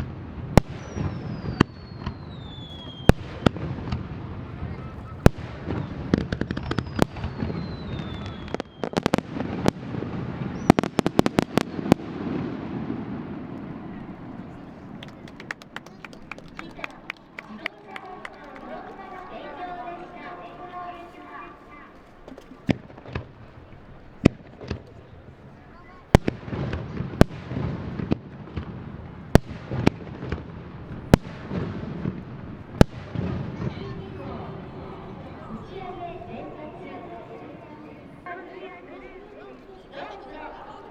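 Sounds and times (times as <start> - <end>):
fireworks bangs and crackles: 0.0 - 21.4, 22.2 - 38.4.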